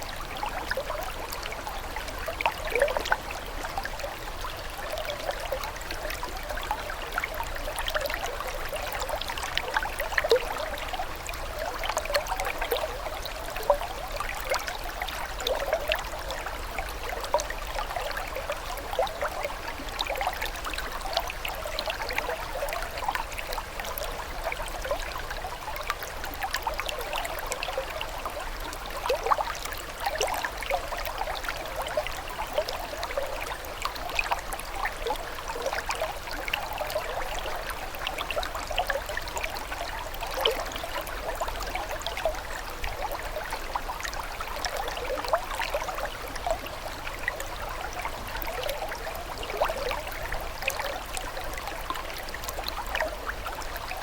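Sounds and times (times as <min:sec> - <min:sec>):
stream water trickling and burbling: 0:00.0 - 0:54.0.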